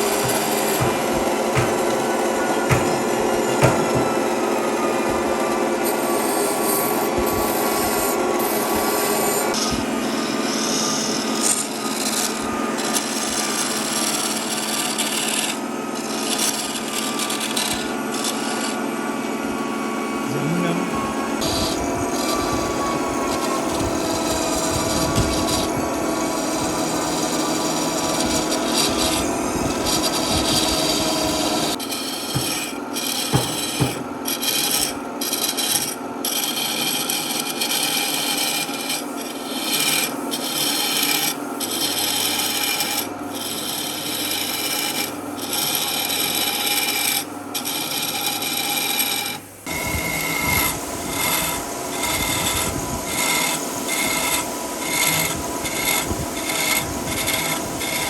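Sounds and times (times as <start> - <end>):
sanding wood by hand: 0.0 - 18.8, 21.4 - 58.0.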